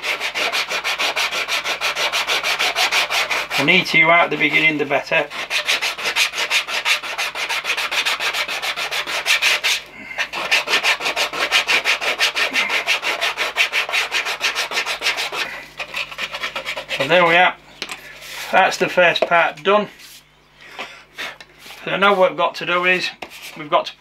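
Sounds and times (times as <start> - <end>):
hand sanding plastic: 0.0 - 17.5, 21.3 - 23.9.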